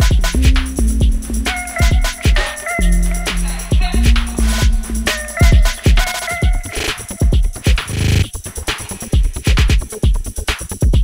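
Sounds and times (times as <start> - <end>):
electronic dance music: 0.0 - 9.9.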